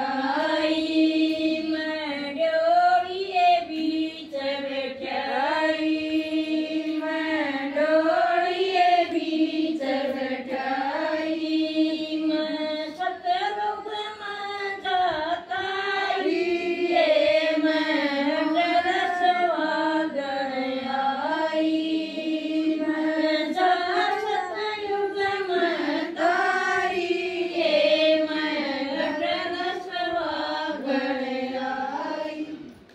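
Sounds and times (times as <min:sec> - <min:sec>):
woman singing unaccompanied: 0:00.0 - 0:32.9.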